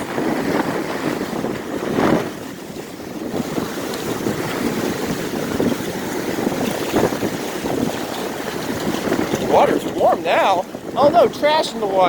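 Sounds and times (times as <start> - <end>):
surf breaking and washing in: 0.0 - 12.0
wind buffeting microphone: 0.0 - 12.0.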